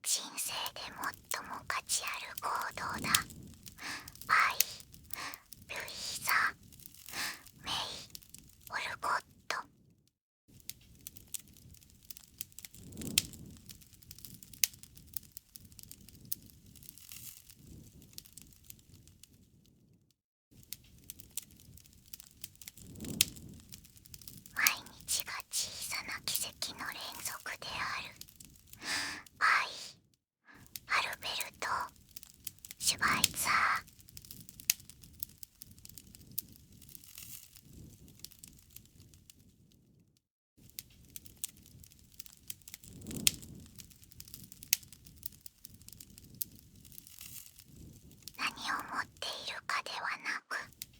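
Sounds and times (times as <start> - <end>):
wood fire crackling: 0.2 - 9.4, 10.5 - 19.8, 20.6 - 29.4, 30.5 - 39.9, 40.6 - 50.9.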